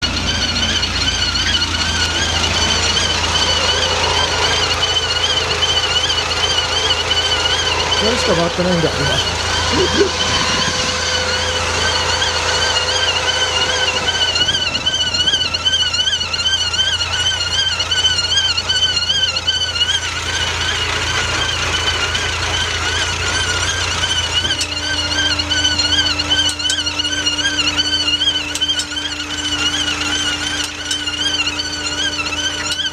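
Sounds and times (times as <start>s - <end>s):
wheel seal squealing: 0.0s - 32.9s.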